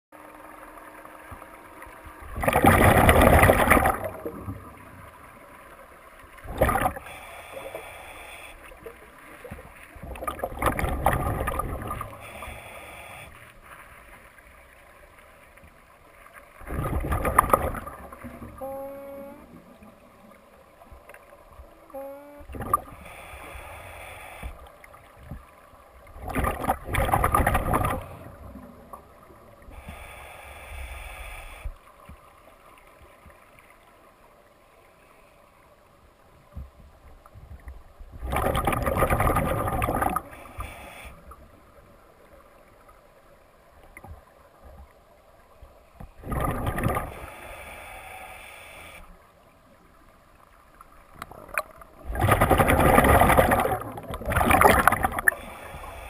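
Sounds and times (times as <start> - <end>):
underwater bubbles rushing and gurgling: 0.2 - 33.9, 36.3 - 56.0.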